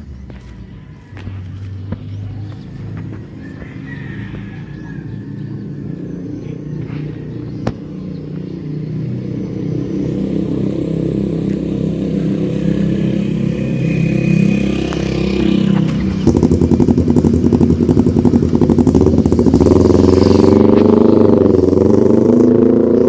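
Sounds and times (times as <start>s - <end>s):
motorcycle exhaust approaching: 0.0s - 23.0s.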